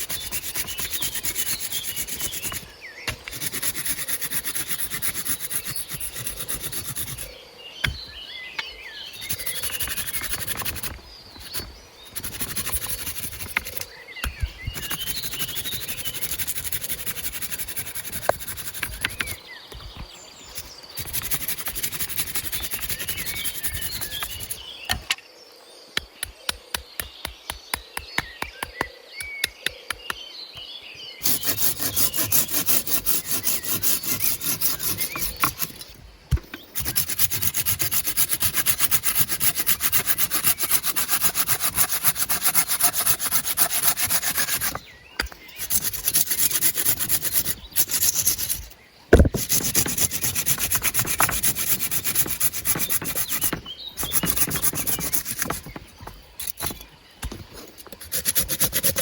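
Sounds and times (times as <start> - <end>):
hand tool rasping wood: 0.0 - 8.0, 9.0 - 25.1, 31.2 - 59.0.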